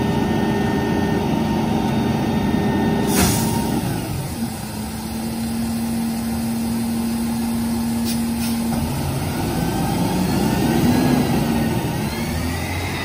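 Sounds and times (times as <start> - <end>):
garbage truck engine: 0.0 - 13.0.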